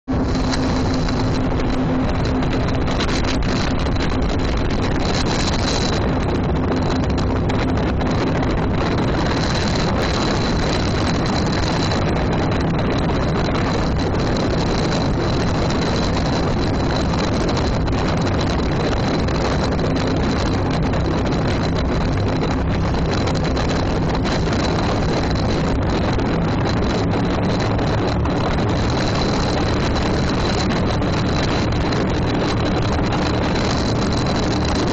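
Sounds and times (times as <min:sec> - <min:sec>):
motorboat engine running: 0:00.0 - 0:34.9
wind rushing over microphone: 0:00.0 - 0:34.9.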